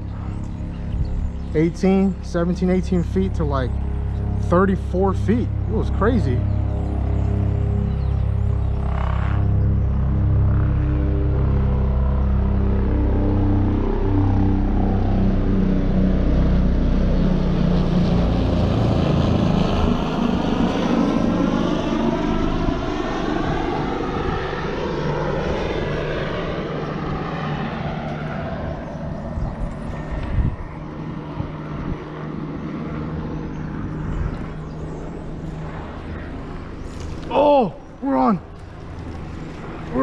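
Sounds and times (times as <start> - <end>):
passing engine droning: 0.0 - 40.0.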